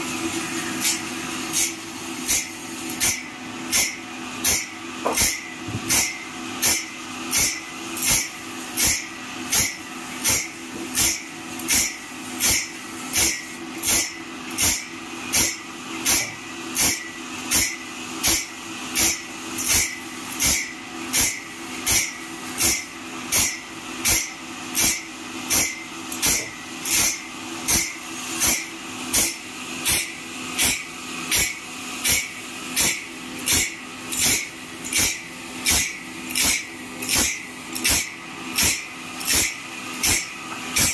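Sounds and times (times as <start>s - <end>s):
grinding wheel hissing on saw teeth: 0.0s - 40.9s.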